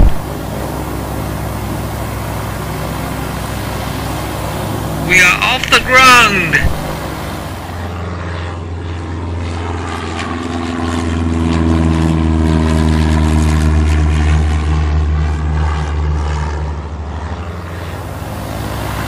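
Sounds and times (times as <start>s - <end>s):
propeller airplane passing by: 0.0s - 19.0s.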